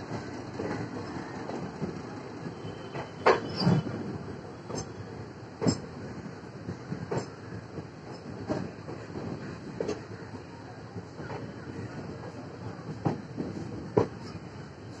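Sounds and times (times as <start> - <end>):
train wheels over rail joints: 0.0 - 15.0.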